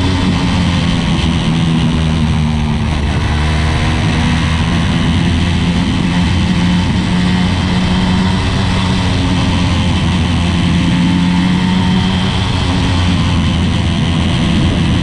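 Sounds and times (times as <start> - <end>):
two-stroke engine running steadily: 0.0 - 15.0.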